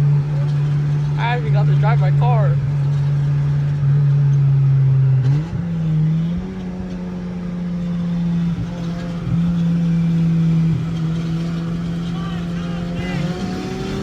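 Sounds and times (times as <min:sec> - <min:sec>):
car engine droning while driving: 0:00.0 - 0:14.0.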